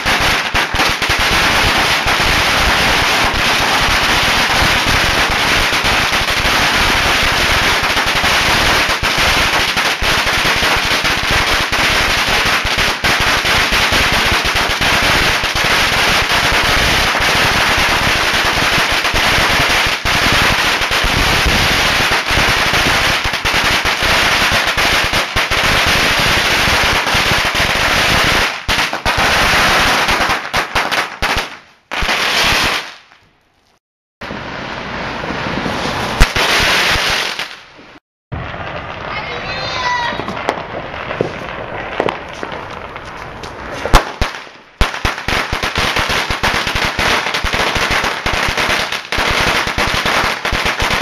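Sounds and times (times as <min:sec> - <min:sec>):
firecrackers banging: 0:00.0 - 0:51.0.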